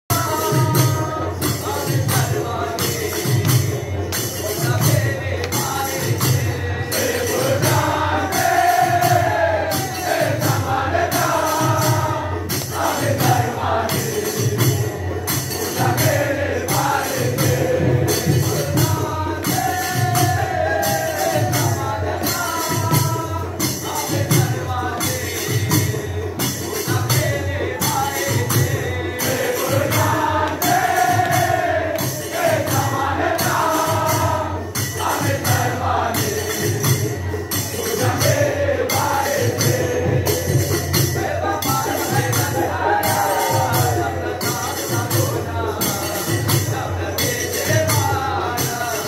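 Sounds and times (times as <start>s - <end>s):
drum beat: 0.1s - 49.0s
group singing: 0.1s - 49.0s
jingling percussion: 0.1s - 49.0s.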